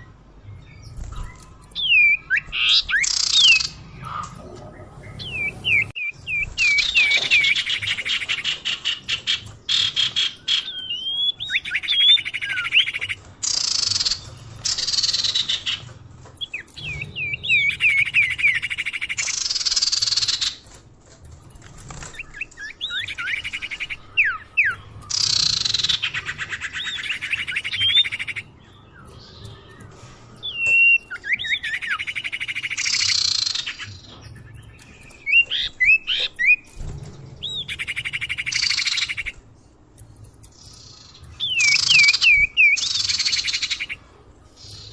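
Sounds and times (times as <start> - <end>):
recorded songbird calls: 0.0 - 20.7, 22.0 - 39.4, 40.5 - 44.9.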